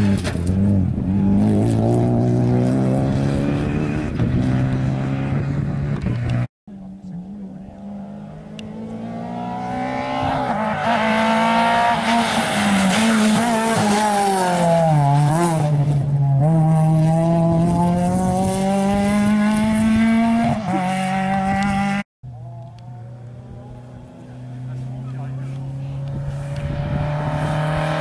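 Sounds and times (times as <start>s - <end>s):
rally car engine passing: 0.0s - 28.0s.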